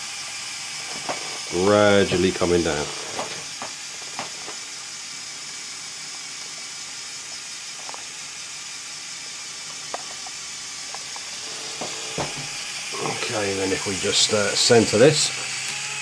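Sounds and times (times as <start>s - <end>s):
toy motor whirring: 0.0s - 16.0s.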